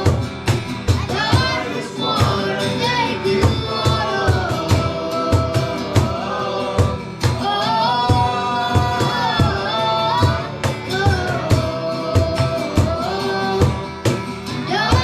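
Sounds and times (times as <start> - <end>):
steady drum beat: 0.0 - 15.0
voices singing: 0.0 - 15.0.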